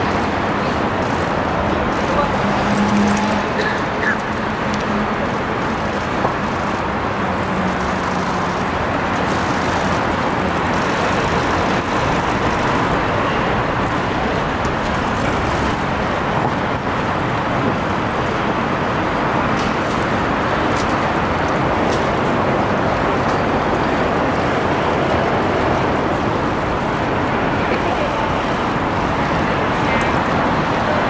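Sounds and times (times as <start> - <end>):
rushing outdoor background noise: 0.0 - 31.0.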